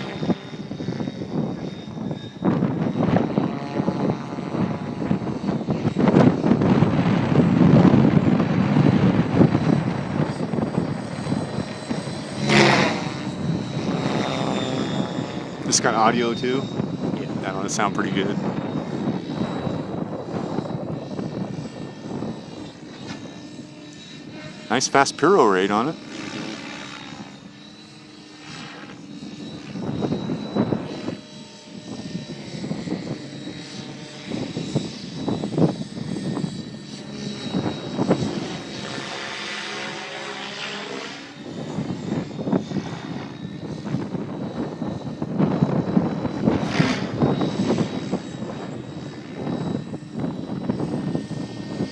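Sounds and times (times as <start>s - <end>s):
faint high whine: 0.0s - 51.9s
helicopter rotor blades whooshing: 0.0s - 51.9s.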